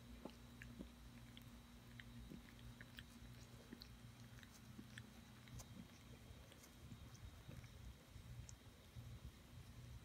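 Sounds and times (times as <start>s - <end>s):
cat licking: 0.0s - 10.0s
low steady hum: 0.0s - 10.0s.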